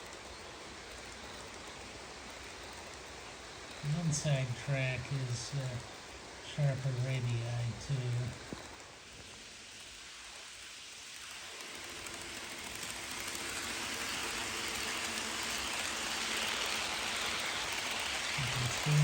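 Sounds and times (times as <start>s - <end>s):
model train rolling on track: 0.0s - 19.0s.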